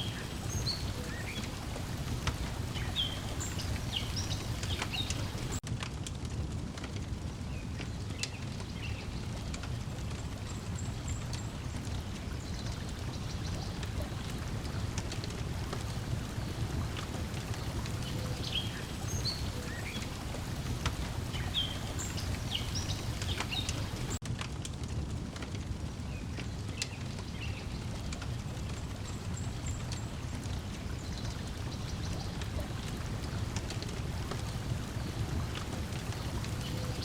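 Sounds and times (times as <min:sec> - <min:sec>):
water lapping at shore: 0:00.0 - 0:05.6, 0:08.9 - 0:24.2, 0:26.4 - 0:37.0
wood fire crackling: 0:00.0 - 0:37.0.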